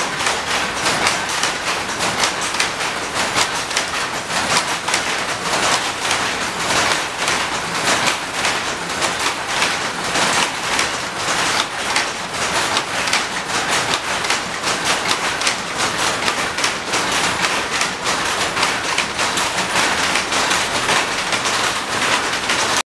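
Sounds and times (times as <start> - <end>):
shuttle looms clattering: 0.0 - 22.8.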